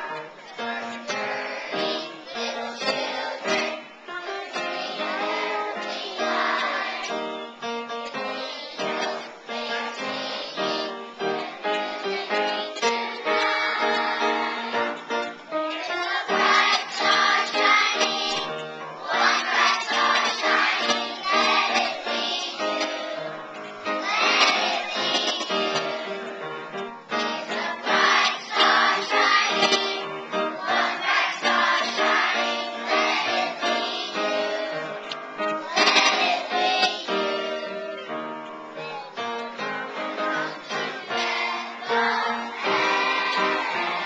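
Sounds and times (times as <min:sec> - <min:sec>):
children's choir singing: 0:00.0 - 0:44.0
upright piano accompaniment: 0:00.0 - 0:44.0.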